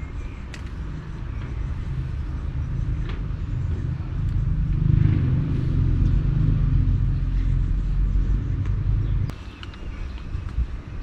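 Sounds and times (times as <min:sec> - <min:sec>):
loud steady low rumble: 0:00.0 - 0:09.4.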